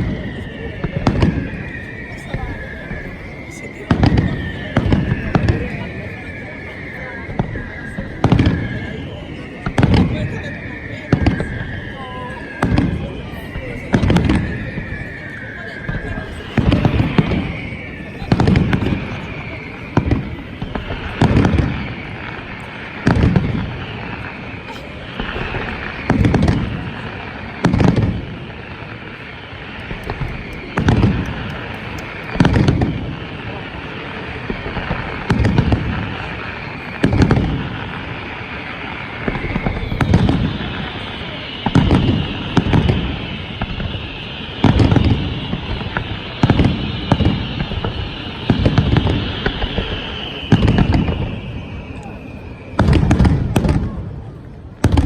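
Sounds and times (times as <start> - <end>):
fireworks booming: 0.0 - 55.0
fireworks crackling: 0.0 - 55.0.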